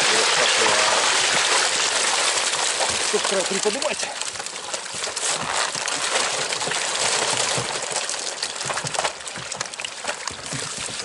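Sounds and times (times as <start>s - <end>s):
fish flapping and splashing: 0.0s - 11.0s
water gushing onto tarpaulin: 0.0s - 11.0s.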